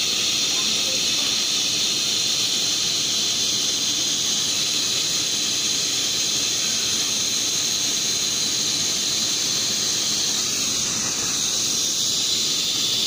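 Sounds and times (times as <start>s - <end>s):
hot-air welding gun hissing: 0.0s - 13.0s.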